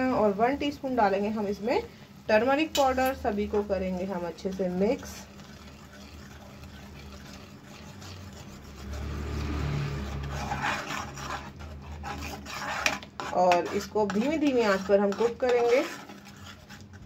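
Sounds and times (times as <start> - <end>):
spoon scraping gravy in pan: 0.0 - 17.0.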